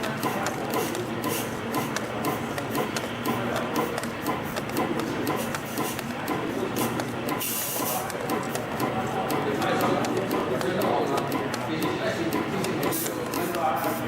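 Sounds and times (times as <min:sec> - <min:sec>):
machine whirring: 0:00.0 - 0:14.0
sharp machine clicks: 0:00.0 - 0:14.0.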